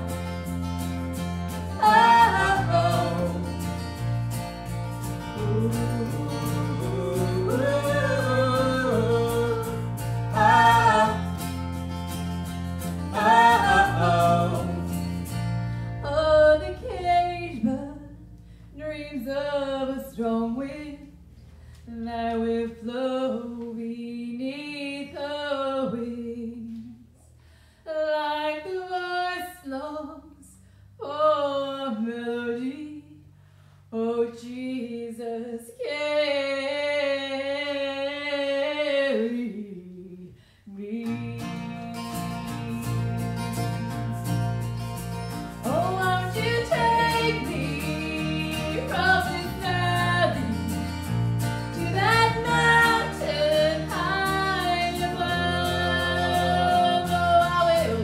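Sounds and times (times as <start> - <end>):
acoustic guitar: 0.0 - 58.0
woman singing: 1.5 - 4.0, 5.2 - 11.5, 13.0 - 15.2, 16.0 - 21.2, 21.9 - 27.1, 27.9 - 33.2, 33.9 - 44.3, 45.6 - 51.0, 51.6 - 58.0.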